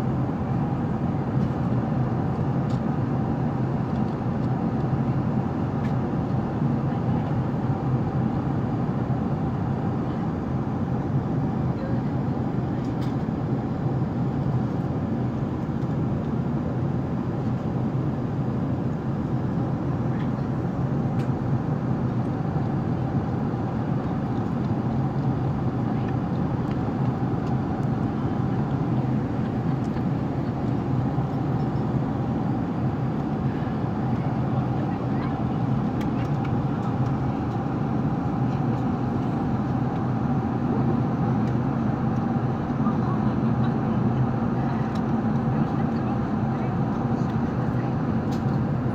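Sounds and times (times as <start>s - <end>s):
aircraft cabin drone: 0.0s - 48.9s.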